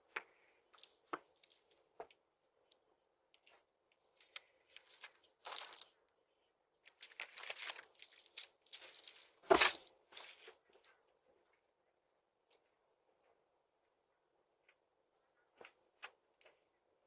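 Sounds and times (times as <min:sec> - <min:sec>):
faint rustling and crinkling: 0:00.0 - 0:17.0.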